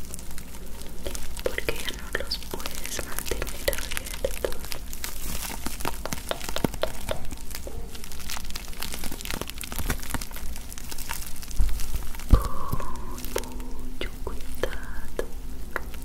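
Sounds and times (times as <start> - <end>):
bubble wrap crackling: 0.0 - 16.0.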